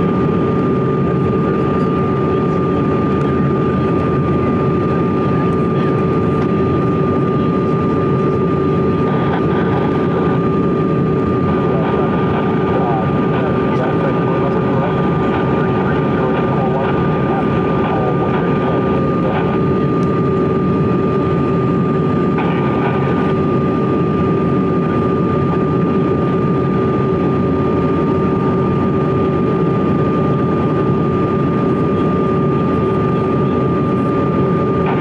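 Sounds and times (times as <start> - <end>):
jet cabin roar: 0.0 - 35.0
steady whining tones: 0.0 - 35.0.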